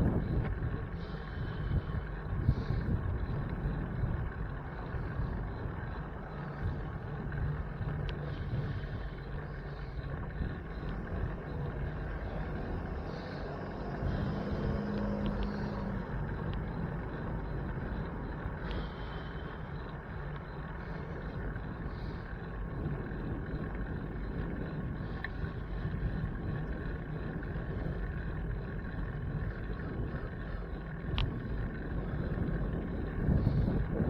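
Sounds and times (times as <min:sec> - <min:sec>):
passing vehicle engine hum: 0:00.0 - 0:34.0
wind and road noise: 0:00.0 - 0:34.0.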